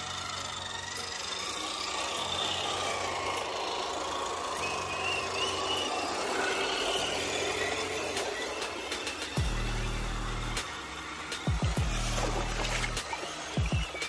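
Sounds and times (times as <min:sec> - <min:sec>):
toy truck motor and gears whining: 0:00.0 - 0:14.0.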